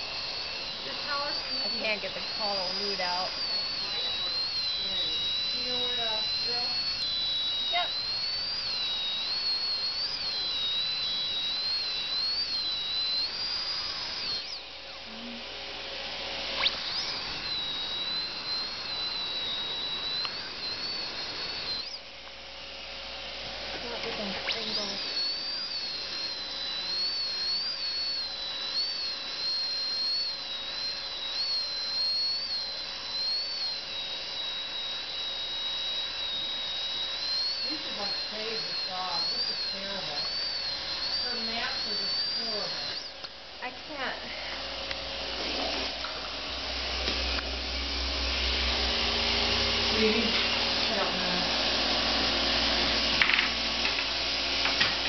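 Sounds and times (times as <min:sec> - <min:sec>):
dental drill whining: 0:00.0 - 0:55.0.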